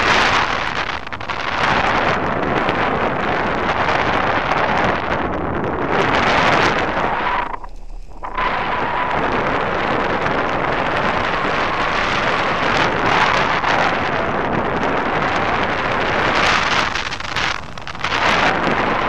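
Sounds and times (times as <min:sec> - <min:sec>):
wind roaring over microphone: 0:00.0 - 0:19.0.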